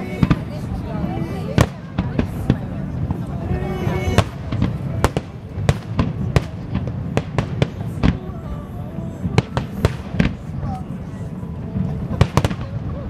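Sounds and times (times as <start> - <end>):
continuous low rumble: 0.0 - 13.0.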